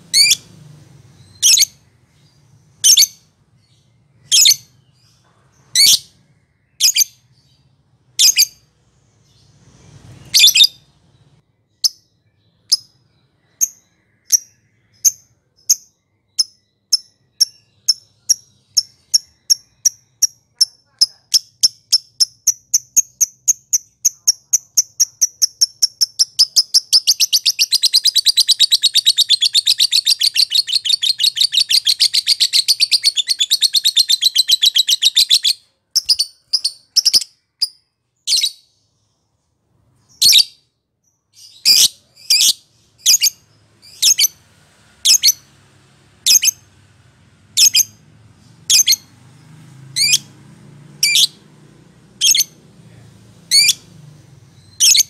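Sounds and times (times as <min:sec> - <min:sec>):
bird chirping rapidly: 0:00.0 - 0:38.8, 0:40.0 - 0:45.6, 0:46.2 - 0:46.8, 0:47.4 - 0:52.7, 0:53.4 - 0:55.0.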